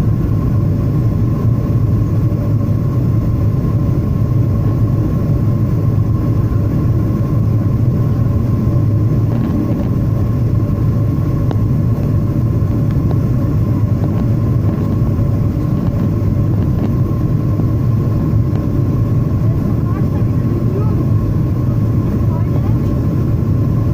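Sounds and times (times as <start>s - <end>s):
airliner cabin rumble: 0.0s - 23.9s
constant hum: 0.0s - 23.9s.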